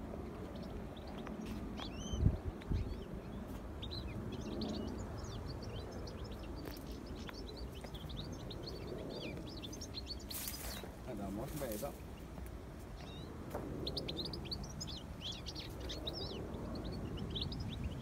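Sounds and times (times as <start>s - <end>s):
finches twittering: 0.0s - 18.0s.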